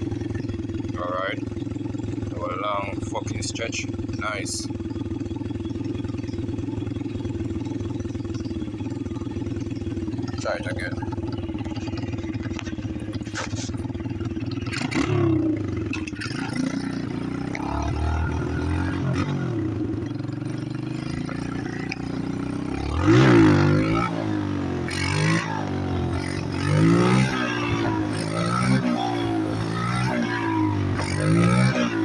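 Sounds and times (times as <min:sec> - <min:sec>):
motorbike engine revving: 0:00.0 - 0:32.0.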